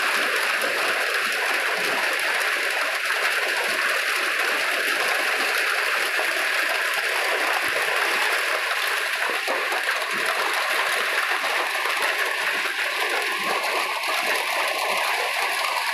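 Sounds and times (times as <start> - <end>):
hail and rain falling: 0.0 - 15.9.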